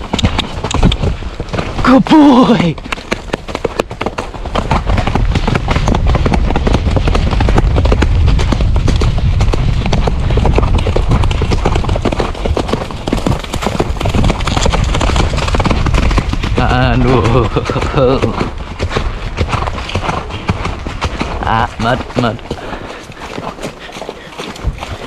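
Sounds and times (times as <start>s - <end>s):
horse hoofbeats on dirt: 0.0s - 25.0s.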